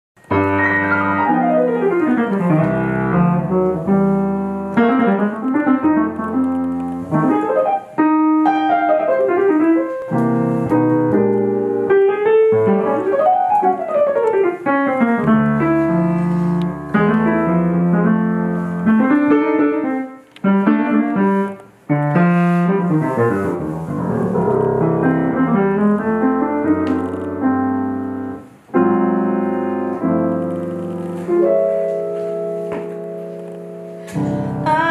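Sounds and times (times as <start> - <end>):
solo piano: 0.2 - 34.9.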